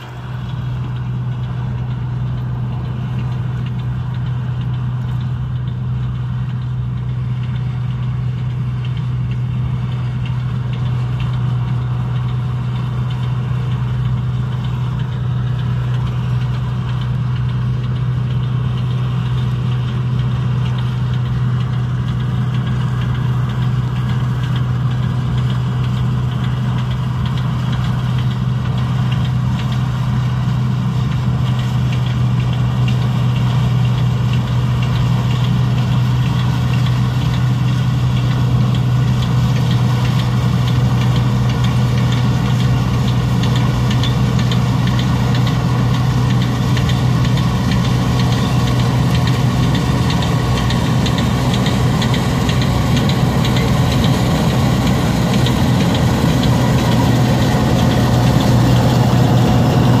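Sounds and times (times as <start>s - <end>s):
combine harvester engine drone: 0.0s - 60.0s.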